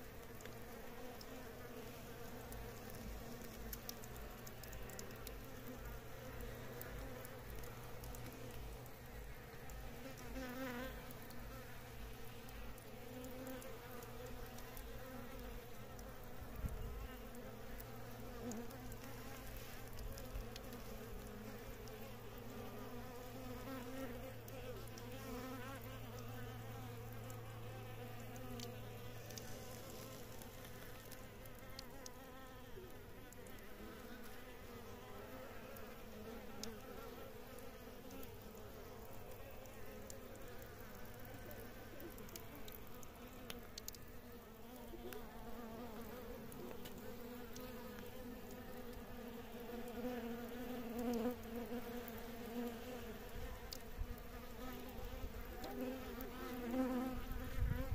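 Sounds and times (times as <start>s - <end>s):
flying insects buzzing: 0.0s - 57.9s.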